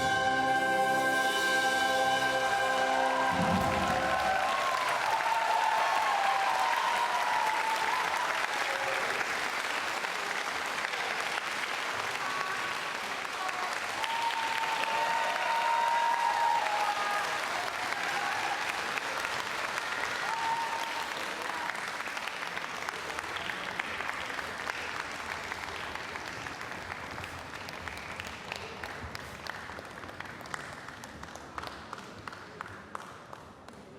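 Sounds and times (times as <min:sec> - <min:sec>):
audience applauding: 0:02.0 - 0:33.9.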